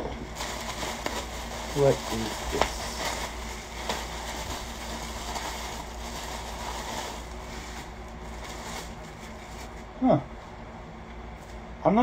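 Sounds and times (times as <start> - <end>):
bubble wrap rustling: 0.2 - 10.0
bubble wrap crackle: 0.3 - 9.9.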